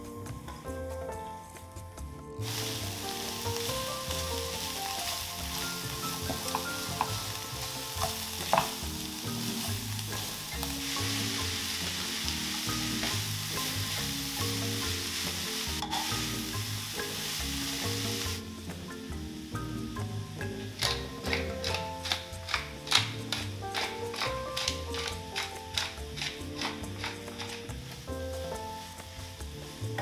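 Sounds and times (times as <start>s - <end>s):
vegetables sizzling in a frying pan: 2.4s - 30.0s.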